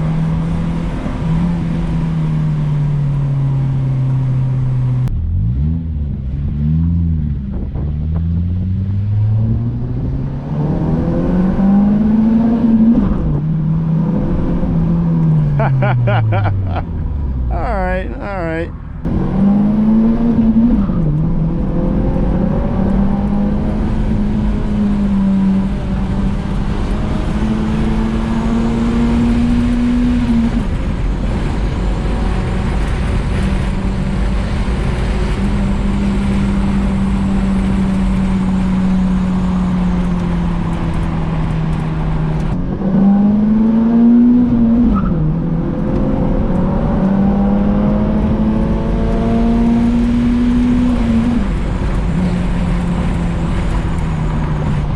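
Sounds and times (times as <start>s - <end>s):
car engine revving through gears: 0.0s - 17.6s, 19.0s - 54.9s
road and tyre noise: 0.0s - 54.9s.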